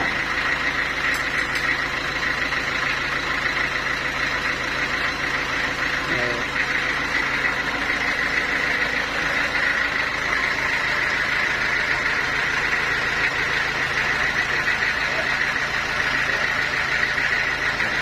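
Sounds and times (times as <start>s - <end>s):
high machine whine: 0.0s - 18.0s
sawmill machinery humming: 0.0s - 18.0s.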